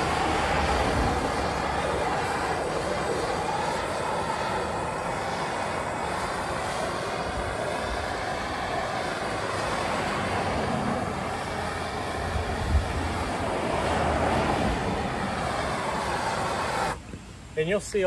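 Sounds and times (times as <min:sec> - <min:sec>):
propane torch roaring: 0:00.0 - 0:18.0
traffic noise: 0:00.0 - 0:18.0.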